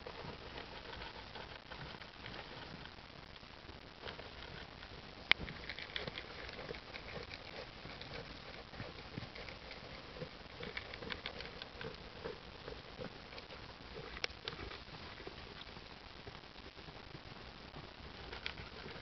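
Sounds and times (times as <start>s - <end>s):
animals crunching feed pellets: 0.0s - 19.0s.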